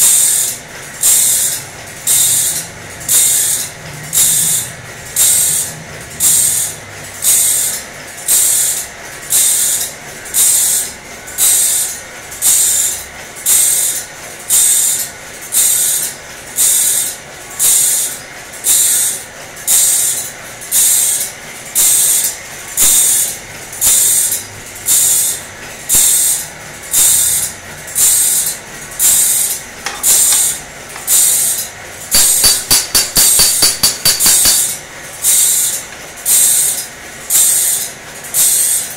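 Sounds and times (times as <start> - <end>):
sharpening machine hissing bursts: 0.0 - 4.6, 5.2 - 9.8, 10.4 - 15.0, 15.6 - 38.9.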